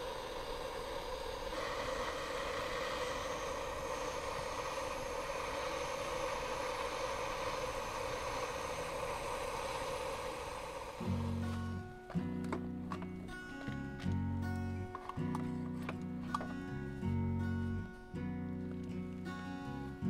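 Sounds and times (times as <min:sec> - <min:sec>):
gas torch hissing: 0:00.0 - 0:17.8.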